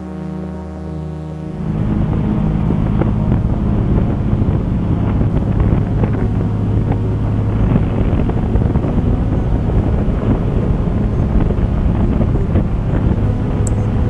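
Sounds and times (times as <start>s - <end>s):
boat engines droning: 0.0s - 14.0s
wind buffeting microphone: 1.5s - 14.0s.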